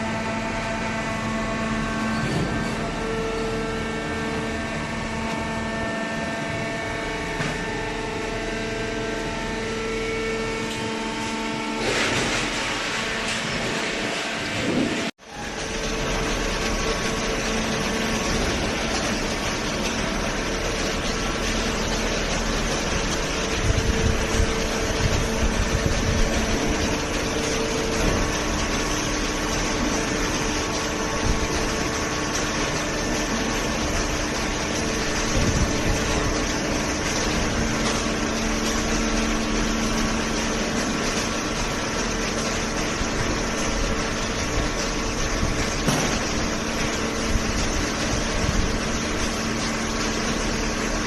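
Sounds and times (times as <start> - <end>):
hydraulic baler droning: 0.0 - 51.0.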